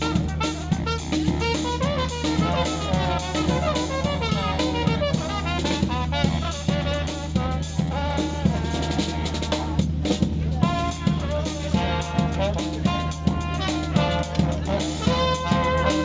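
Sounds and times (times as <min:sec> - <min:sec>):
live jazz band playing: 0:00.0 - 0:16.0.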